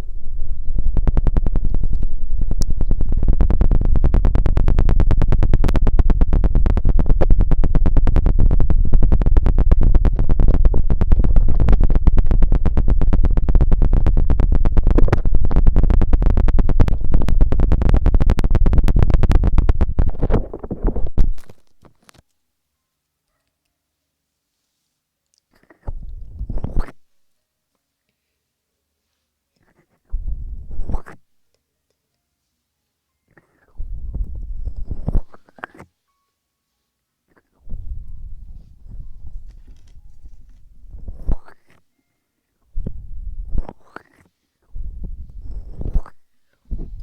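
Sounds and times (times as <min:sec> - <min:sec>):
rubbing on microphone: 0:00.0 - 0:22.2, 0:24.5 - 0:27.2, 0:29.0 - 0:31.4, 0:33.3 - 0:36.0, 0:36.8 - 0:41.9, 0:42.7 - 0:47.0.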